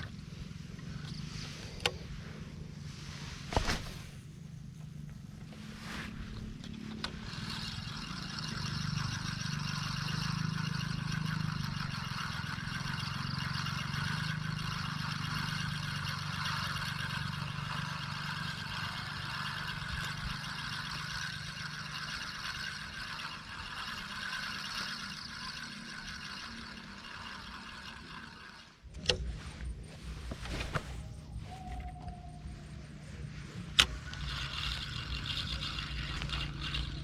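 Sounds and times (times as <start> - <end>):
small engine humming: 0.0 - 37.0.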